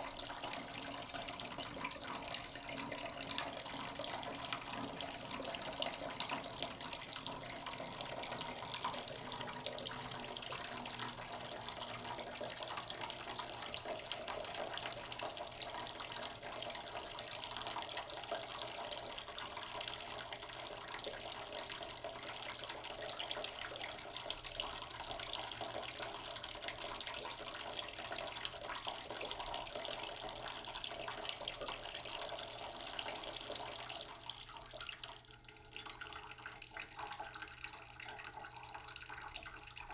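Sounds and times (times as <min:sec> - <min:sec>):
tap water filling a pot: 0:00.0 - 0:39.9.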